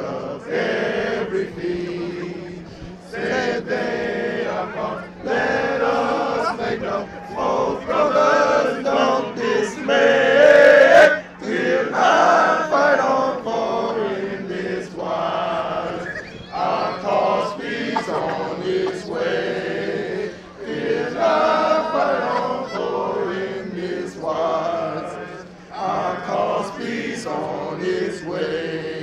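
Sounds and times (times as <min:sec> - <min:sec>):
men singing in unison: 0:00.0 - 0:29.0.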